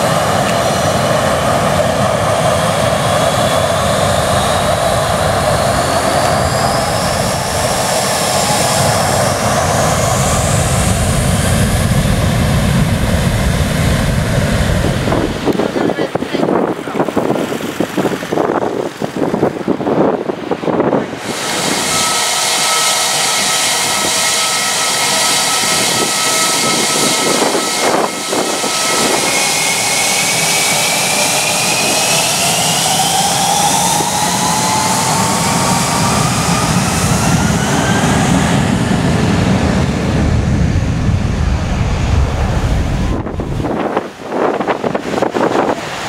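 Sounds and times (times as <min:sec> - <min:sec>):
deep engine rumble: 0:00.0 - 0:46.0
jet engines whining: 0:00.0 - 0:46.0.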